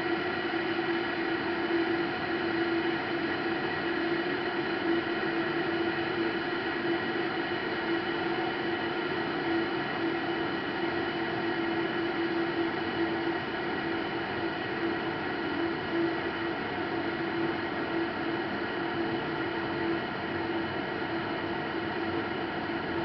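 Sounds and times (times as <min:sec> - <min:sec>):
electric kettle heating water: 0:00.0 - 0:23.0.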